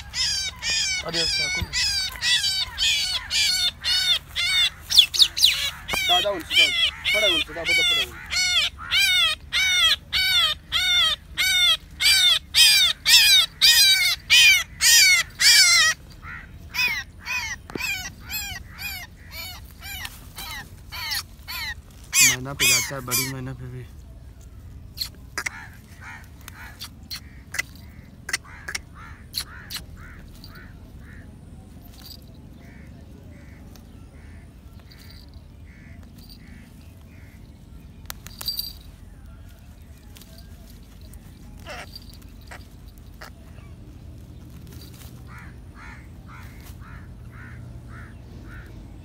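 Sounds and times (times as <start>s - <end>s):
bird distress calls: 0.0s - 49.0s.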